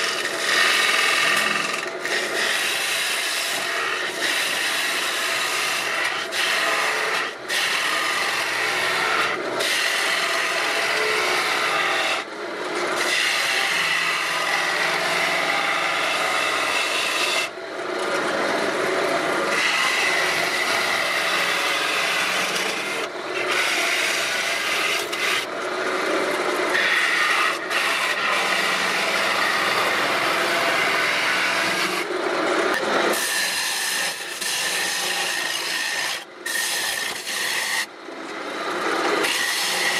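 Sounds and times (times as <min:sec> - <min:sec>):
gouge scraping wood on lathe: 0:00.0 - 0:12.2, 0:12.8 - 0:17.5, 0:18.1 - 0:32.1, 0:32.7 - 0:37.9, 0:38.6 - 0:39.9.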